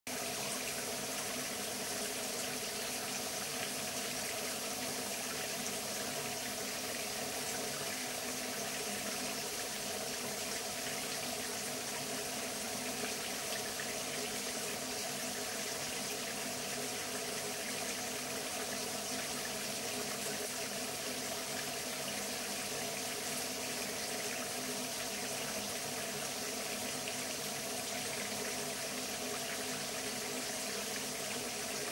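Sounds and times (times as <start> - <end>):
running water rushing: 0.1 - 31.9.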